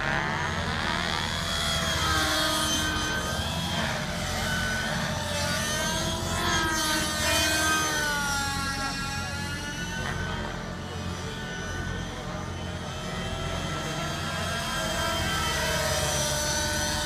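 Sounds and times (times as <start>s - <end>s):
model helicopter rotor whine: 0.0s - 17.0s.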